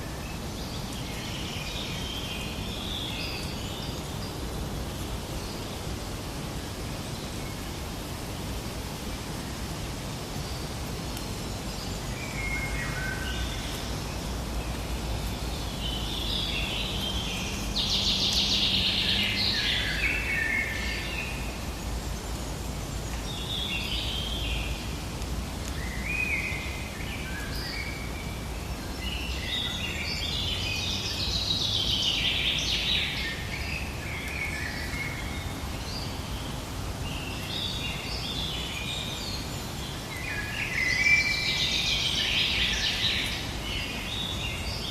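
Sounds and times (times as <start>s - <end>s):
songbirds chirping: 0.0s - 44.9s
steady low hiss: 0.0s - 44.9s.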